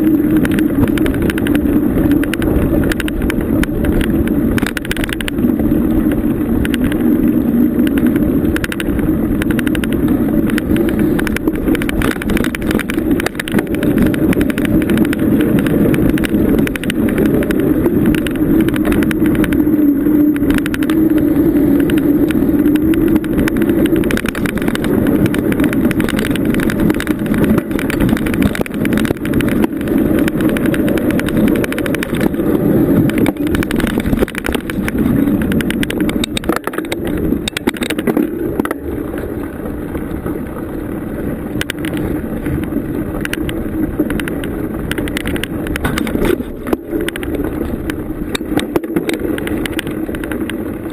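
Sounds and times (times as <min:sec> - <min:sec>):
bicycle rattles and knocks: 0:00.0 - 0:50.9
bicycle tyre rumble on trail: 0:00.0 - 0:50.9.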